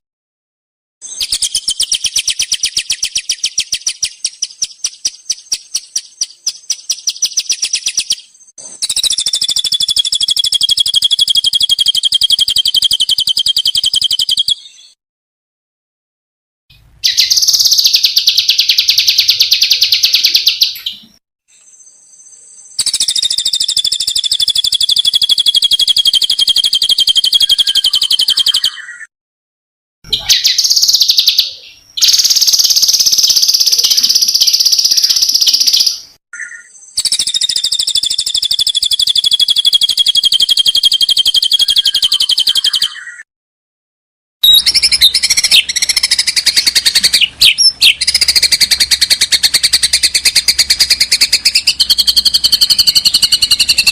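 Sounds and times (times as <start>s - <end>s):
songbird singing rapid trills: 1.0s - 15.0s, 17.0s - 21.0s, 21.6s - 29.1s, 30.1s - 43.2s, 44.4s - 53.9s.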